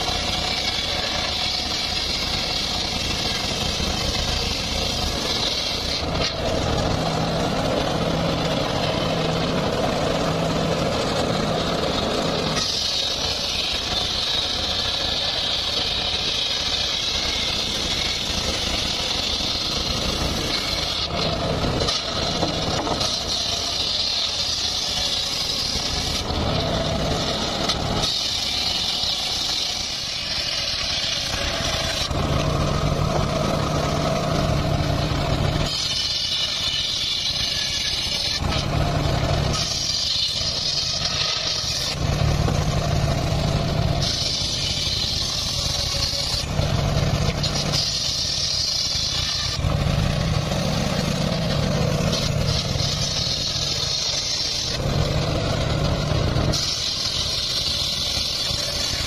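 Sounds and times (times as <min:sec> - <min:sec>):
saw blade cutting log: 0:00.0 - 0:59.0
sawmill engine humming: 0:00.0 - 0:59.0.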